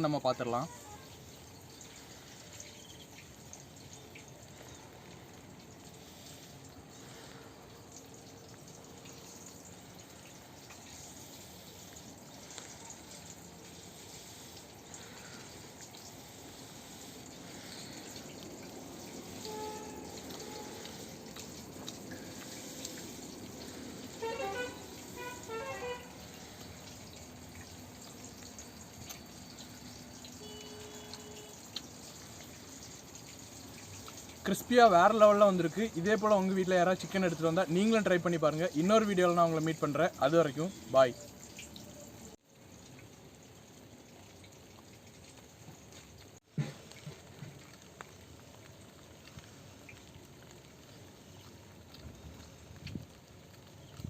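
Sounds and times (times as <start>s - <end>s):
light rain falling and dripping: 0.0s - 54.0s.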